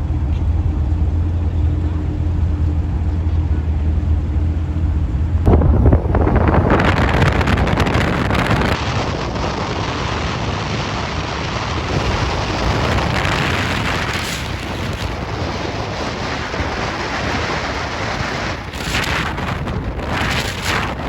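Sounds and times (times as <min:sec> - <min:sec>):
car engine droning: 0:00.0 - 0:21.0
wind and road noise: 0:00.0 - 0:21.0.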